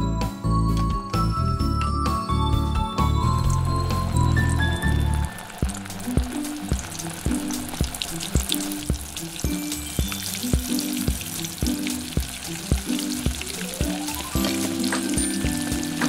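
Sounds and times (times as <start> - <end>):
light background music with beat: 0.0 - 16.0
frying sizzle: 1.6 - 16.0.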